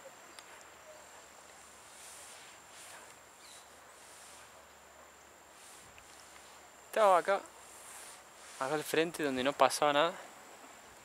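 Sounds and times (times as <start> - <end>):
soft outdoor hiss: 0.0 - 11.0.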